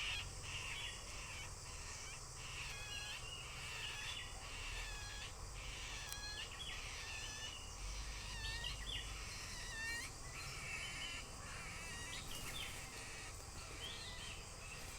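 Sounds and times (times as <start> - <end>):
birds chirping and calling: 0.0 - 14.9
low background noise: 0.0 - 14.9.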